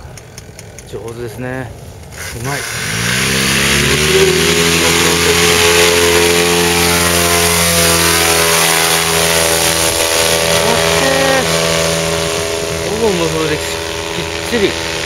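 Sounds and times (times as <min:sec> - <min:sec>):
paramotor engine revving: 0:02.0 - 0:15.0.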